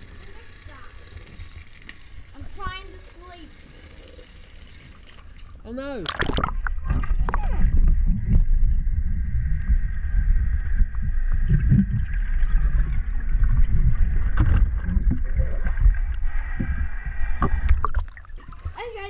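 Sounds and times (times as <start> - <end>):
faint steady whine: 0.0 - 19.0
underwater rumble of moving water: 0.0 - 19.0.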